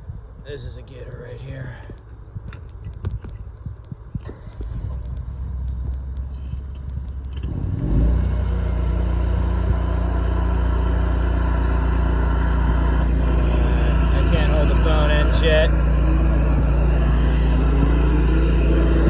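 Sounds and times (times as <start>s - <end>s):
engine and pump droning: 3.6s - 19.0s.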